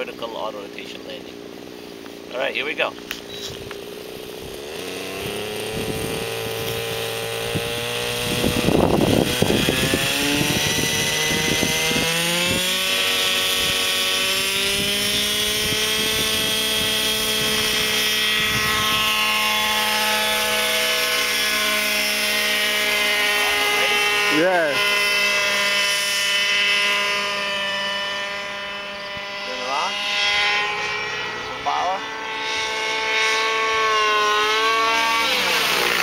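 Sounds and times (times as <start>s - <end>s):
model helicopter engine and rotor: 0.0s - 36.0s.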